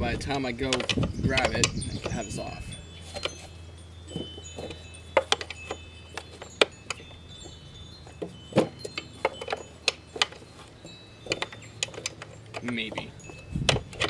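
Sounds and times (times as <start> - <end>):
low steady hum: 0.0 - 14.0
wrench clinking against bolt: 0.3 - 3.5, 4.1 - 14.0.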